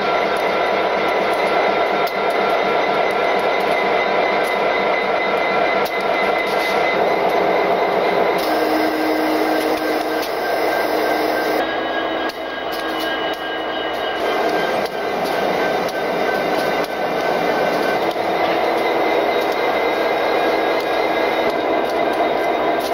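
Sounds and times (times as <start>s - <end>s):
diesel locomotive idling: 3.2s - 22.9s.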